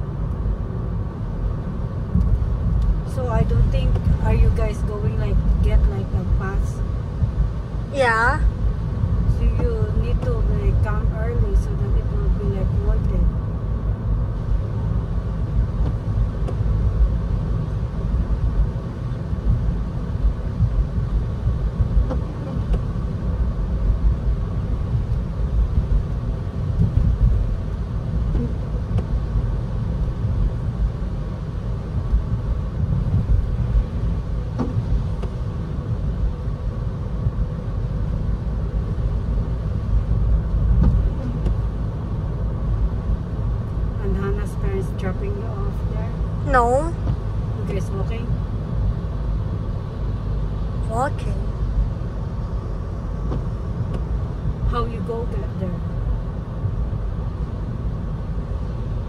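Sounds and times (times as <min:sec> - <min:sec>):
car engine rumble: 0:00.0 - 0:59.0
tyres on wet road: 0:00.0 - 0:59.0.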